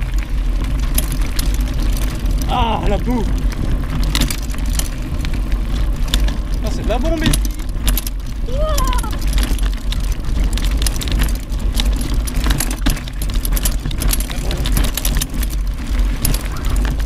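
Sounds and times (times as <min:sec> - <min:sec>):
bike clattering over stones: 0:00.0 - 0:17.0
wind rumble on microphone: 0:00.0 - 0:17.0.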